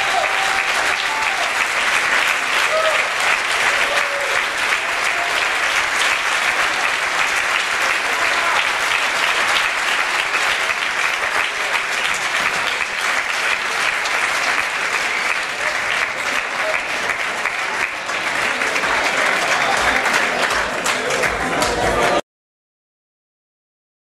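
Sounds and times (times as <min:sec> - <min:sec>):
audience applauding: 0:00.0 - 0:22.2.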